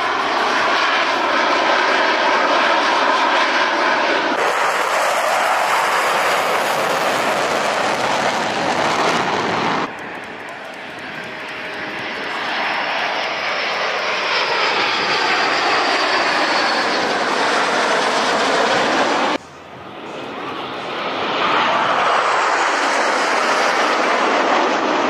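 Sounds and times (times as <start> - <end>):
jet flying overhead: 0.0 - 25.0.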